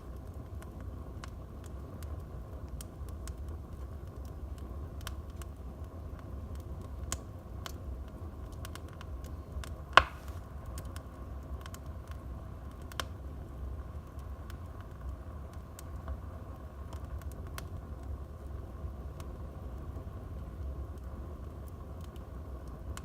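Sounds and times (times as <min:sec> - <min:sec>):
fire popping: 0:00.0 - 0:23.0
flames rumbling: 0:00.0 - 0:23.0
wood fire crackling: 0:00.0 - 0:23.0.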